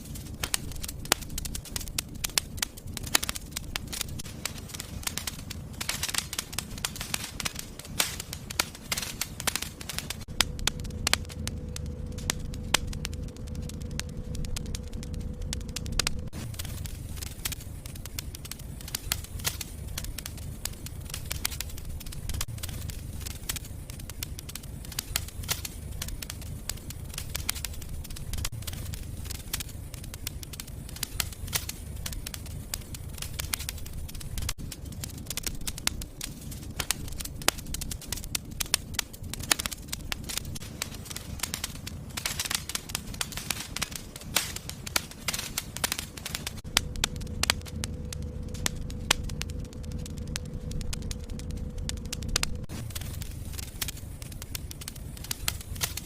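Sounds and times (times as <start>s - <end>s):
low rumble of flames: 0.0s - 56.0s
sharp pops and snaps: 0.0s - 56.0s
wood fire crackling: 0.0s - 56.0s.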